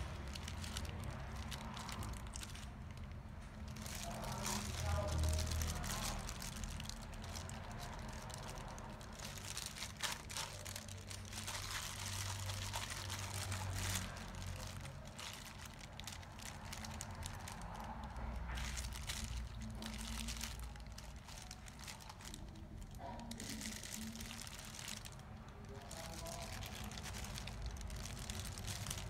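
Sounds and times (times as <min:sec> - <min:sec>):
plastic glove crinkling: 0:00.0 - 0:29.0
wet squishing: 0:00.0 - 0:29.0.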